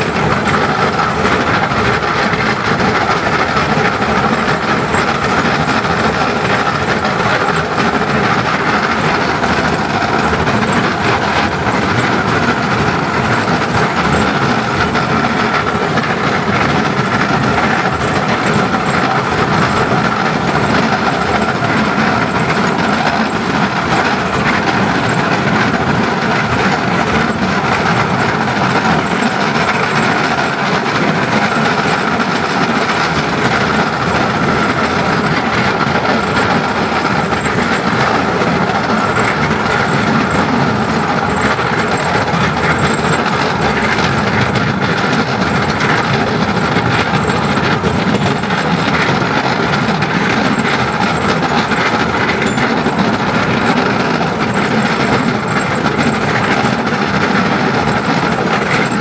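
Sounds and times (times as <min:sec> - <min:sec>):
steam train running: 0:00.0 - 0:59.0
wheels on rails: 0:00.0 - 0:59.0.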